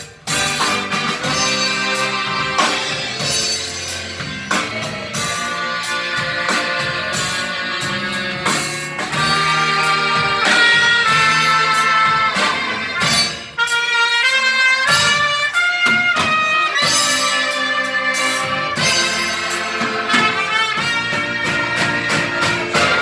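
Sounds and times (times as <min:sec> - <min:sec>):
brass playing held notes: 0:00.0 - 0:23.0
drum beat: 0:00.0 - 0:23.0.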